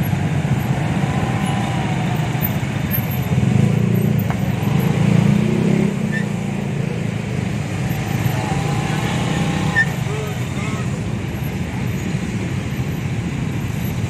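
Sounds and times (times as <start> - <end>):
surrounding traffic: 0.0 - 14.0.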